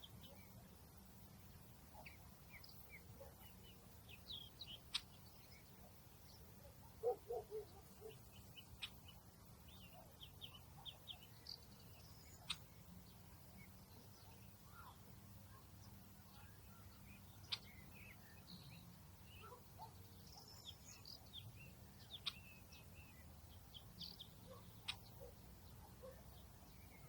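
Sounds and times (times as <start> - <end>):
faint high bird chirps: 1.9 - 27.0.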